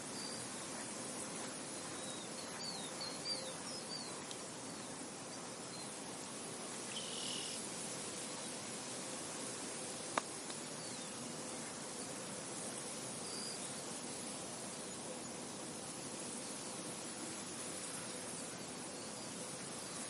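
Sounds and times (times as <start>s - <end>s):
wind over a field: 0.0s - 20.0s.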